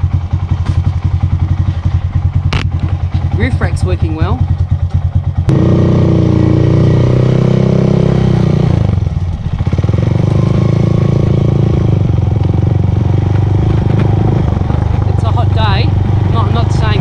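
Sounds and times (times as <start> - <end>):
motorcycle engine pulling away: 0.0 - 17.0.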